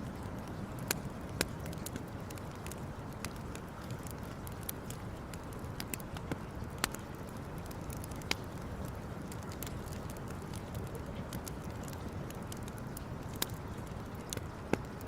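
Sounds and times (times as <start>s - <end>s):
campfire crackling and popping: 0.0s - 15.0s
fire low rumble: 0.0s - 15.0s.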